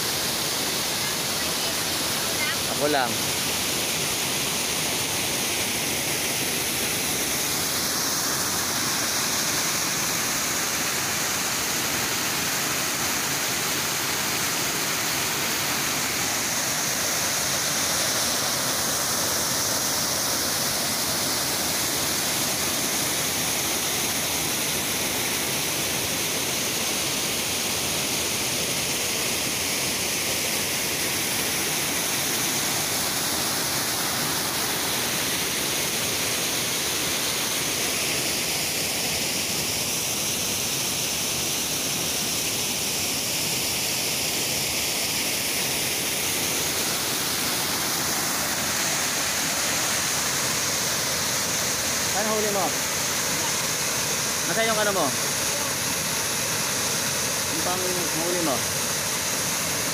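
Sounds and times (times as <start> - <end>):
waterfall rushing into pool: 0.0 - 59.9.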